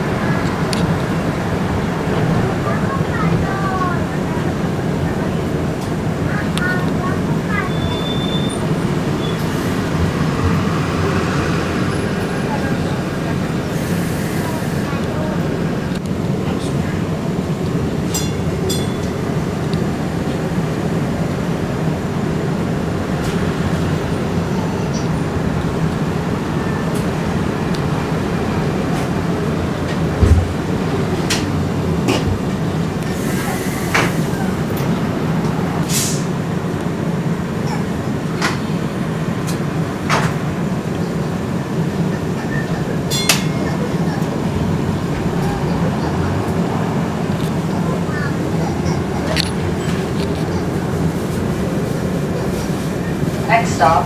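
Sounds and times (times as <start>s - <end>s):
streetcar rumbling on rails: 0.0s - 54.0s.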